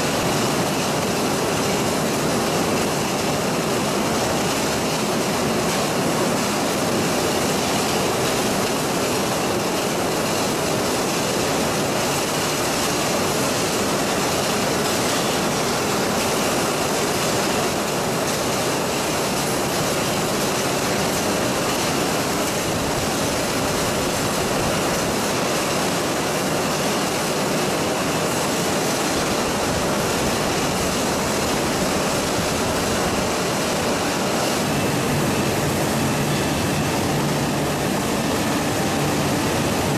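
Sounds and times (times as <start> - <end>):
machinery rumble and hiss: 0.0 - 39.9.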